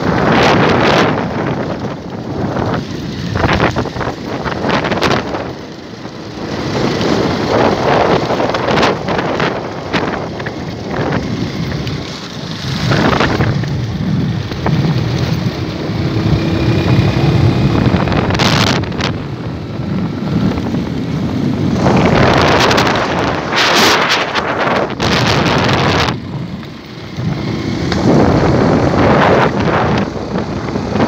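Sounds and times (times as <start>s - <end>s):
motorcycle engine running: 0.0s - 31.0s
wind buffeting microphone: 0.0s - 31.0s.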